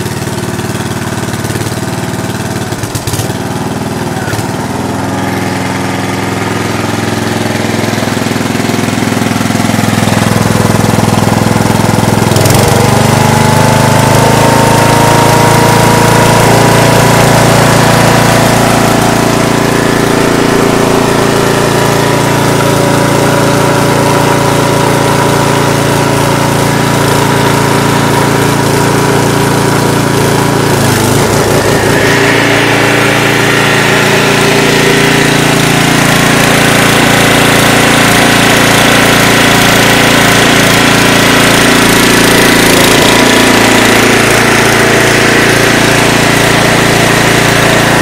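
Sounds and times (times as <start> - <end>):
single-cylinder engine running: 0.0 - 48.0.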